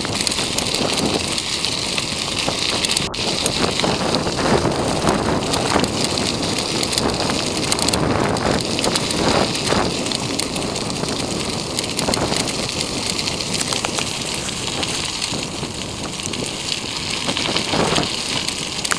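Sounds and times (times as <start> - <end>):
small rattling clicks: 0.0 - 15.5
rolling rumble on asphalt: 0.0 - 18.9
wind buffeting microphone: 0.0 - 18.9.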